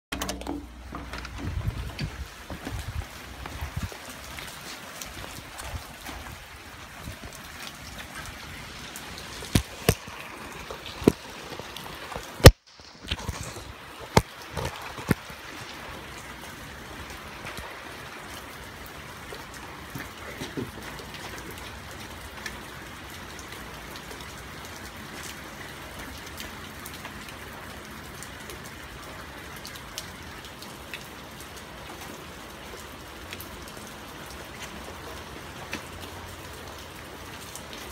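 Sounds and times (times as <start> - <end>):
rain pattering: 0.1 - 37.9.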